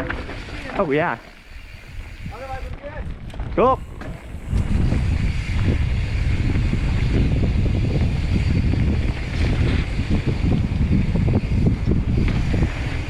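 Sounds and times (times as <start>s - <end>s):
wind buffeting microphone: 1.4s - 13.0s.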